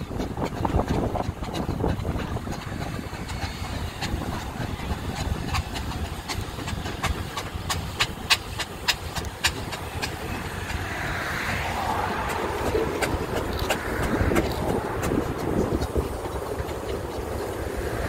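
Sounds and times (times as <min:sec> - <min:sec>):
metallic ticking: 0:00.0 - 0:18.0
steam engine rumble and hiss: 0:00.0 - 0:18.0.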